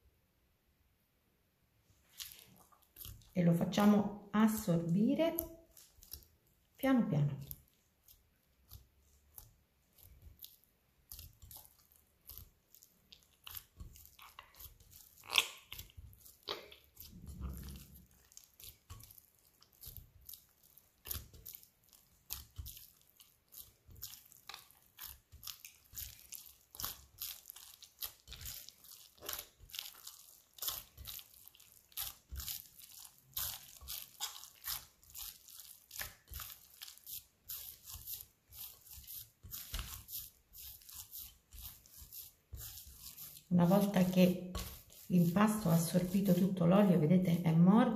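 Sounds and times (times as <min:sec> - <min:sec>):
wet squelches of kneaded dough: 0:01.7 - 0:47.9.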